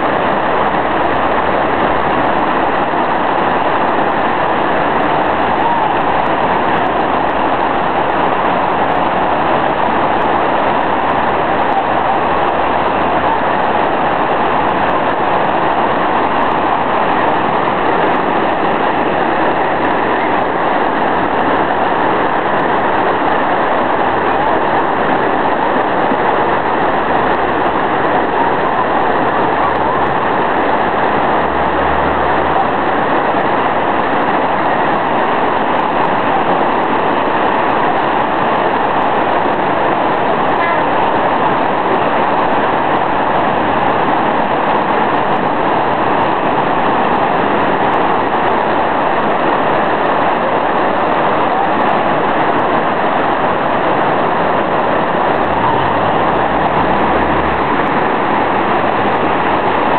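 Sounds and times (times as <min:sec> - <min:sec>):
flood water rushing: 0:00.0 - 0:59.9.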